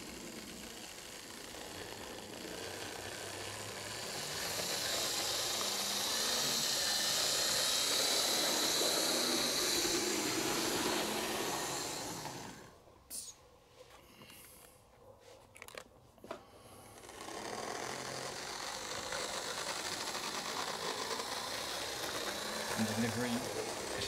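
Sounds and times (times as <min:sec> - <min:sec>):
wheels rolling on rails: 0:00.0 - 0:12.9, 0:15.6 - 0:24.0
model train motor whir: 0:00.0 - 0:13.3, 0:15.6 - 0:24.0.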